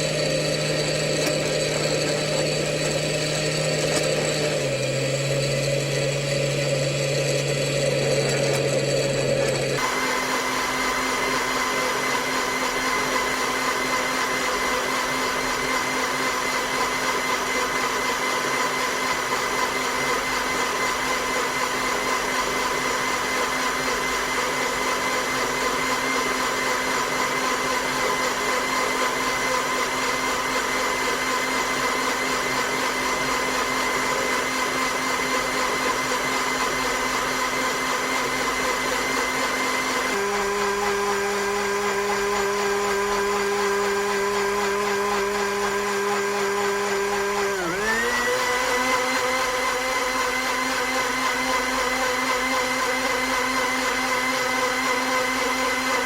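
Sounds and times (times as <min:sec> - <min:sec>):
appliance motor whining: 0:00.0 - 0:56.0.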